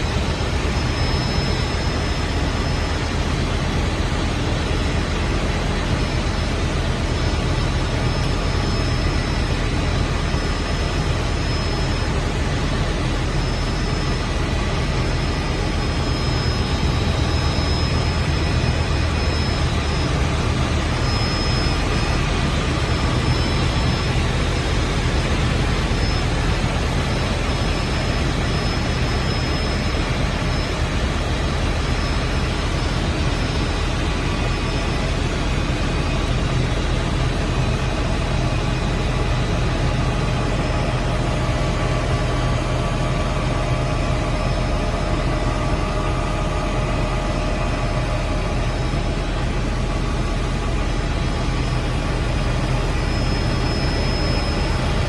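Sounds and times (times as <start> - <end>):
helicopter turbine and rotor noise: 0.0 - 55.0
thin high whine: 0.0 - 55.0.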